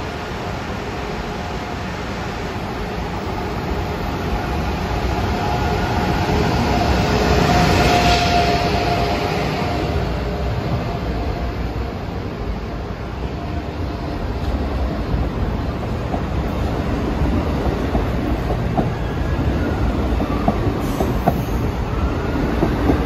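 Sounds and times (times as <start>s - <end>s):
electric train passing: 0.0s - 23.0s.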